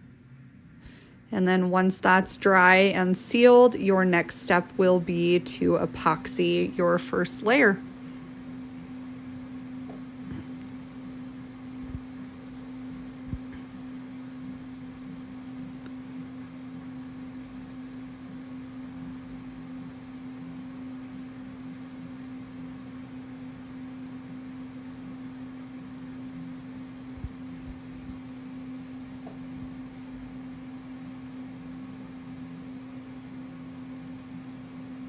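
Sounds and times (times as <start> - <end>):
electric motor hum: 2.6 - 35.0.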